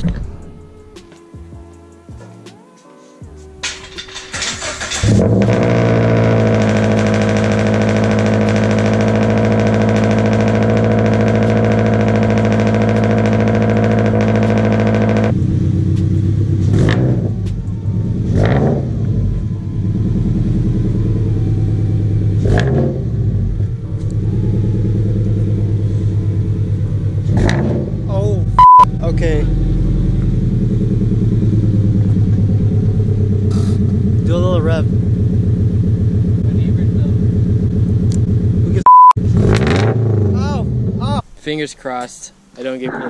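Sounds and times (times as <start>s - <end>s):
car engine idling and revving: 3.3s - 41.2s.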